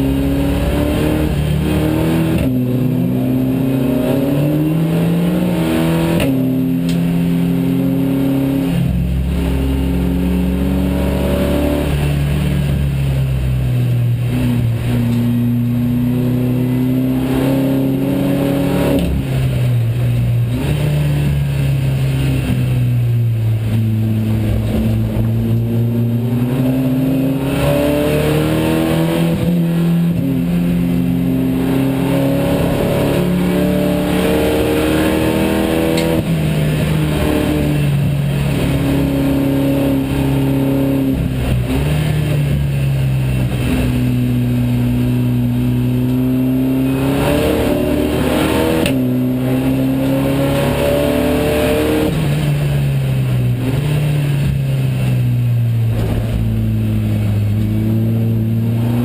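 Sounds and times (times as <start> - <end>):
race car engine revving: 0.0 - 59.0
road and tyre noise: 0.0 - 59.0.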